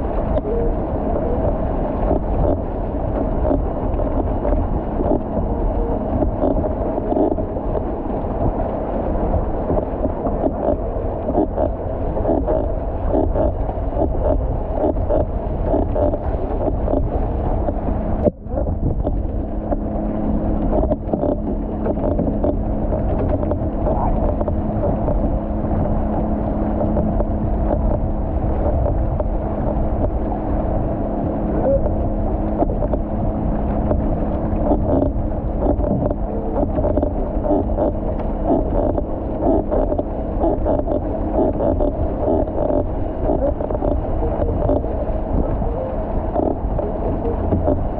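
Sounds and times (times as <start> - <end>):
motorboat engine droning: 0.0 - 47.9
water rushing along hull: 0.0 - 47.9
wind buffeting microphone: 0.0 - 47.9.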